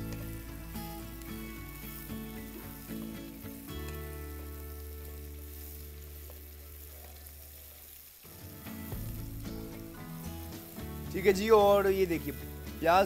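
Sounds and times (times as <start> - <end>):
soft background music: 0.0 - 7.4, 8.2 - 13.0
onions sizzling in hot oil: 0.0 - 13.0.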